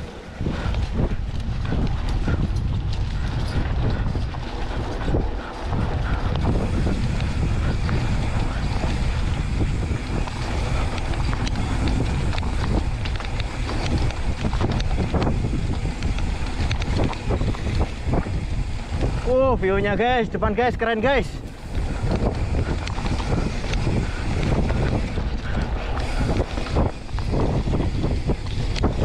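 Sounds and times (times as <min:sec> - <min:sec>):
bike rattles and clicks: 0:00.0 - 0:29.0
tyres rumbling on dirt trail: 0:00.0 - 0:29.0
wind buffeting microphone: 0:00.0 - 0:29.0.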